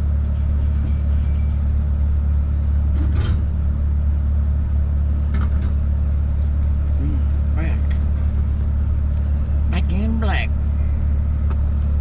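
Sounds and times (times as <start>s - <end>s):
truck engine running low: 0.0s - 12.0s.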